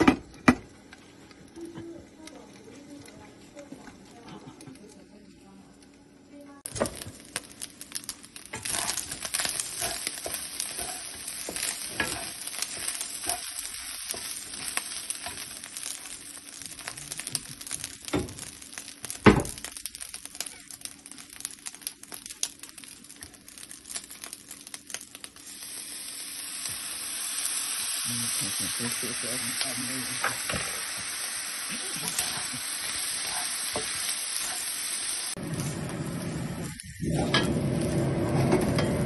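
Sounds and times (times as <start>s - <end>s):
rice sizzling in a frying pan: 0.0s - 39.0s.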